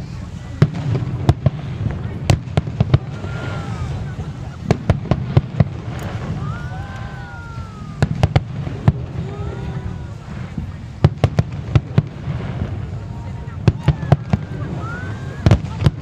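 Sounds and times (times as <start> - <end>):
firework bangs: 0.0 - 16.0.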